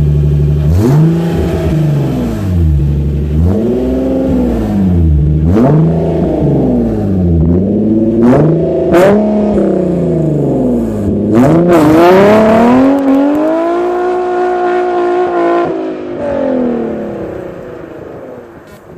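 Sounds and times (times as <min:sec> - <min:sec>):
engine revving through exhaust: 0:00.0 - 0:18.8.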